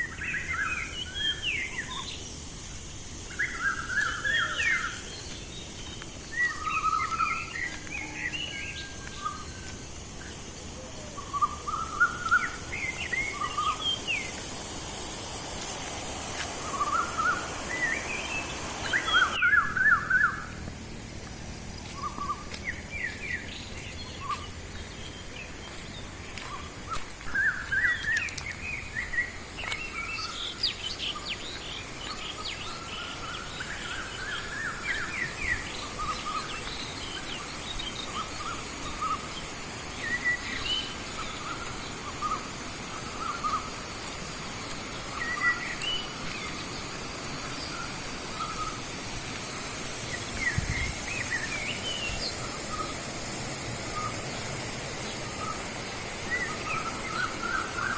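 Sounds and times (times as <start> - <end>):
birds chirping: 0.0 - 57.9
faint high hiss: 0.0 - 57.9.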